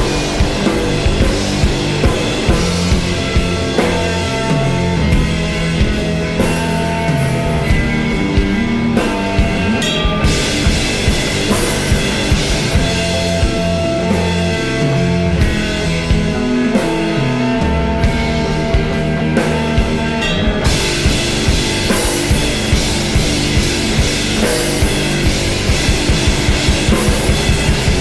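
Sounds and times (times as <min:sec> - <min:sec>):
bass guitar: 0:00.0 - 0:28.0
drum kit beat: 0:00.0 - 0:28.0
electric guitar: 0:00.0 - 0:28.0.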